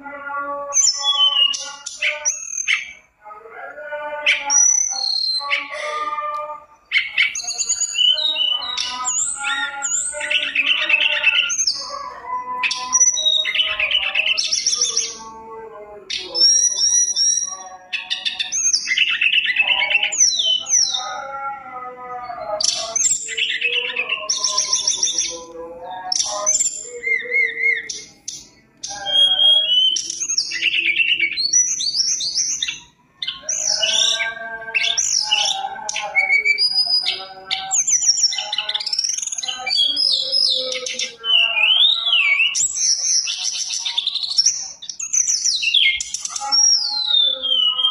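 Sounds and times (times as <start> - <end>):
bird singing whistles and trills: 0.7 - 3.1, 4.3 - 6.0, 6.8 - 15.3, 16.1 - 21.2, 22.3 - 47.9.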